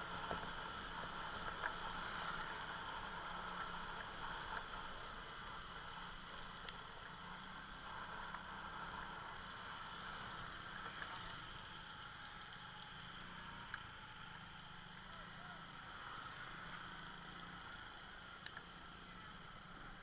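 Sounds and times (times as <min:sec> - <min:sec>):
road noise: 0:00.0 - 0:20.0
scooter engine drone: 0:00.0 - 0:20.0.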